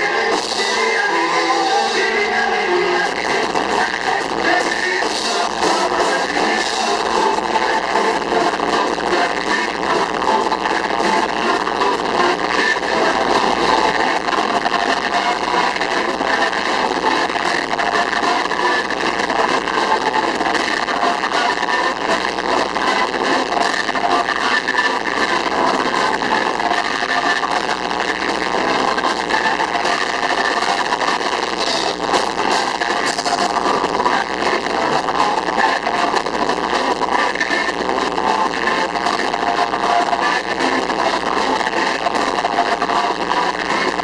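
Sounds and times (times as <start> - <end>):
live band playing loudly: 0.0 - 44.0.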